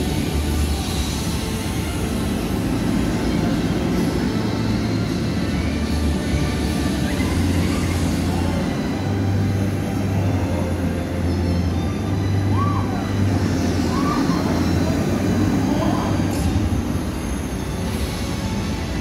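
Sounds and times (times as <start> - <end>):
ride machinery humming: 0.0 - 19.0.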